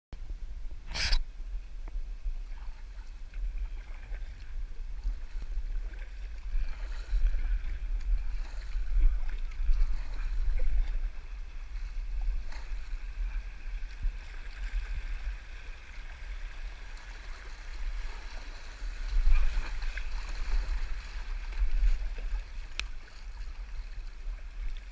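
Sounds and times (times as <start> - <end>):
steady low rumble: 0.1 - 24.9
paddle strokes in water: 0.9 - 24.9
water splashing along kayak hull: 0.9 - 24.9.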